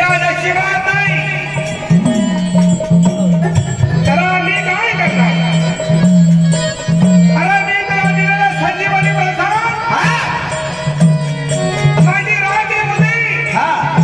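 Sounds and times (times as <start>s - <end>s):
devotional folk music: 0.0s - 14.0s
hand drums: 0.0s - 14.0s.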